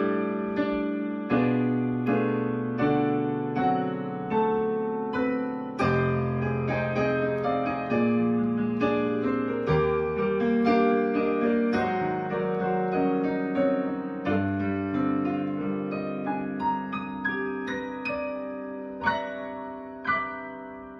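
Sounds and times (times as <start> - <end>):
piano chords ringing: 0.0 - 20.9.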